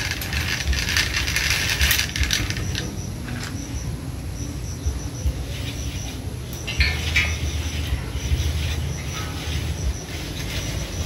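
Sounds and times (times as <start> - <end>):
pulleys rattling with rope: 0.0 - 3.7, 5.5 - 11.0.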